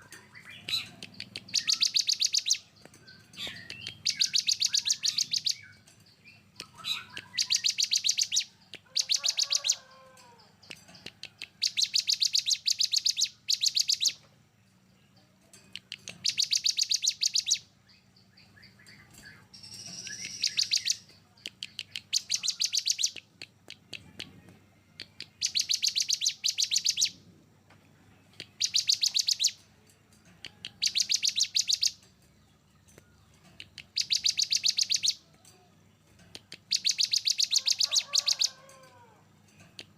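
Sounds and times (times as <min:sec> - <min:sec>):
songbird singing rapid sharp notes: 0:00.0 - 0:09.8, 0:10.6 - 0:14.3, 0:14.9 - 0:27.2, 0:28.1 - 0:29.7, 0:30.5 - 0:38.6.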